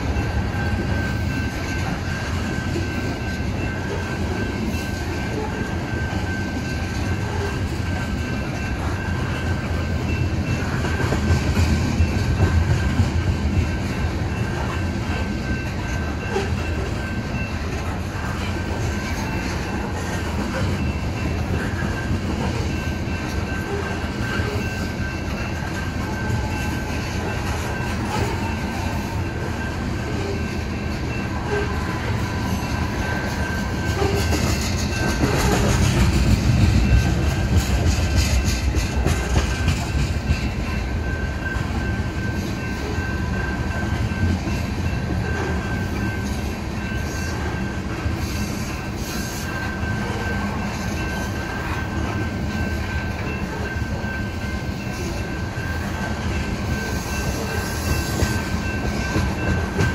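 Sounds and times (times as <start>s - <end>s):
train wheels on rail clattering: 0.0s - 59.9s.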